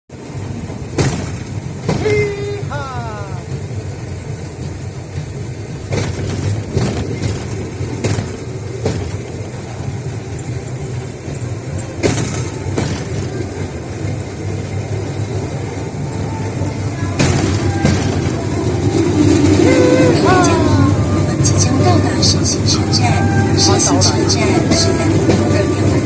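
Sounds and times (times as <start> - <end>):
train motor and rolling hum: 0.1 - 26.0
wheels clicking over rail joints: 0.1 - 26.0.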